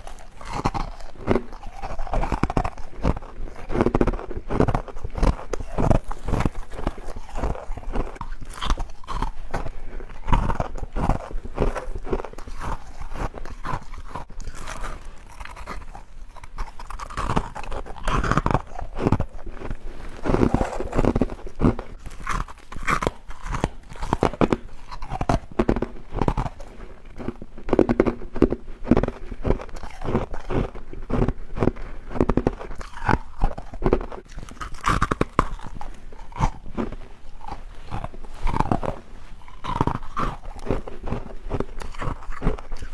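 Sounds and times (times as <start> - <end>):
person chewing crunchy frost: 0.0 - 42.9.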